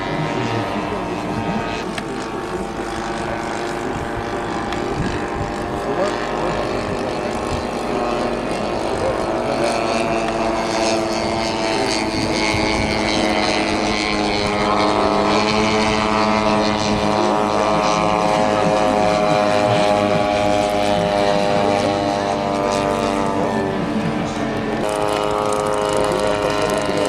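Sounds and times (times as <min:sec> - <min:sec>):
propeller plane engines droning: 0:00.0 - 0:27.0.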